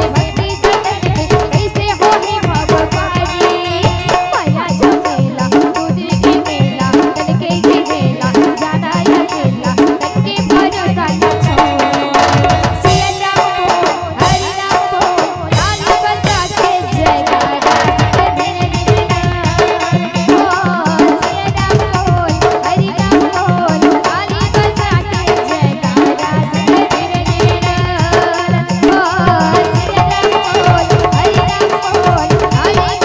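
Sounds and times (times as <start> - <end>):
fast hand drum rhythm: 0.0 - 33.0
harmonium steady notes: 0.0 - 33.0
woman singing into microphone: 0.0 - 33.0.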